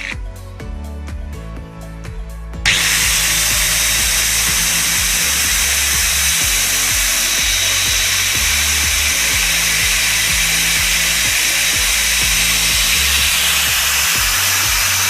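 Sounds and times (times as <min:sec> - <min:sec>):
background music with beat: 0:00.0 - 0:15.0
angle grinder whining: 0:02.7 - 0:15.0.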